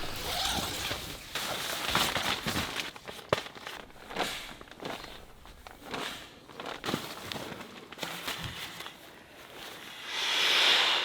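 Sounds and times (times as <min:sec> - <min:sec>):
tent fabric rustling: 0:00.0 - 0:10.0.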